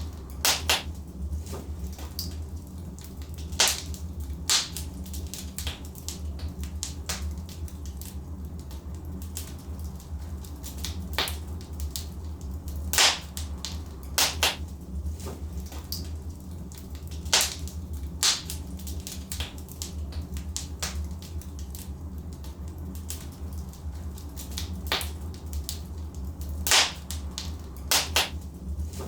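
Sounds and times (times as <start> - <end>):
logs crackling and popping in fire: 0.0 - 29.0.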